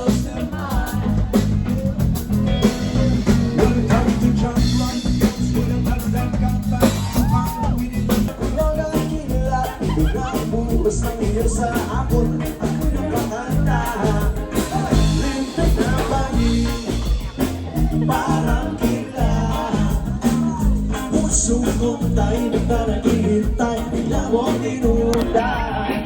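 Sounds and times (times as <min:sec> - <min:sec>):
pop song with singing: 0:00.0 - 0:26.0.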